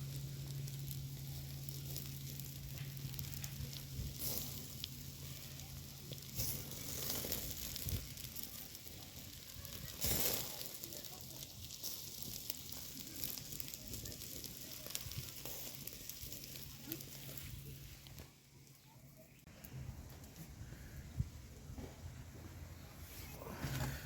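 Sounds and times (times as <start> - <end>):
meat sizzling over fire: 0.0 - 19.5.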